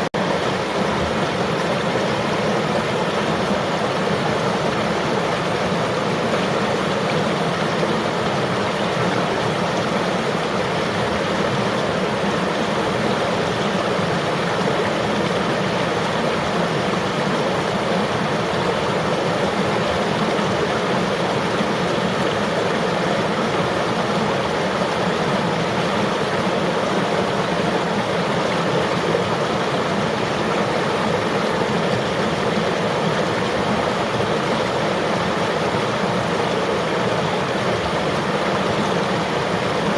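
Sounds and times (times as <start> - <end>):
river flowing over rocks: 0.1 - 39.9.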